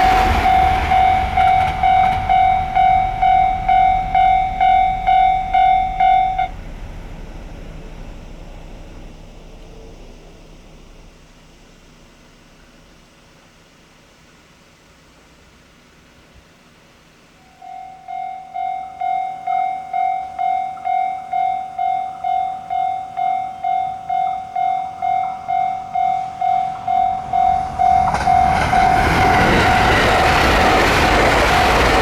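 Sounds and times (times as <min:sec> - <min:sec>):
level crossing warning bell: 0:00.0 - 0:11.2, 0:17.4 - 0:32.0
train passing: 0:00.0 - 0:32.0.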